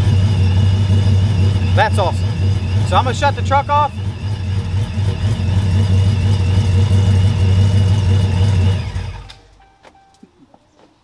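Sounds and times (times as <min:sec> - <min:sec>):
truck engine idling: 0:00.0 - 0:09.7.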